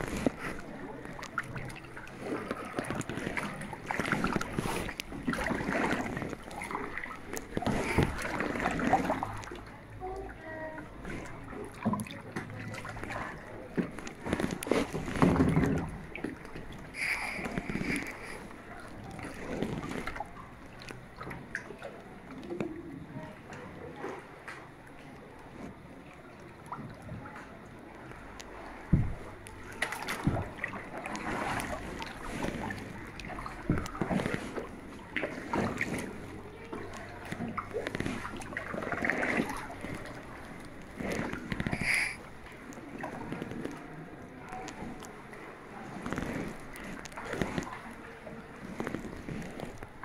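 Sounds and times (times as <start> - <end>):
kayak paddle strokes in water: 0.0 - 50.0
water lapping at hull: 0.0 - 50.0.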